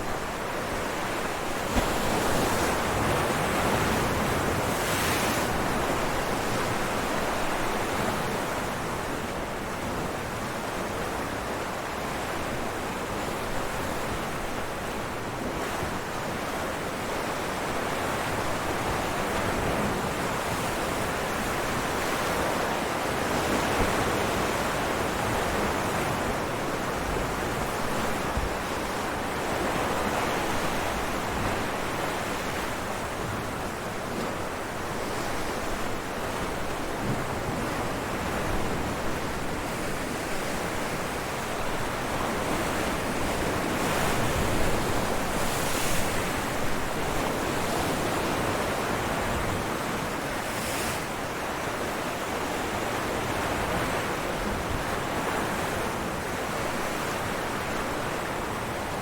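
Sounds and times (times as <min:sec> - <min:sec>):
ocean waves breaking on rocks: 0:00.1 - 0:09.1, 0:17.4 - 0:59.0.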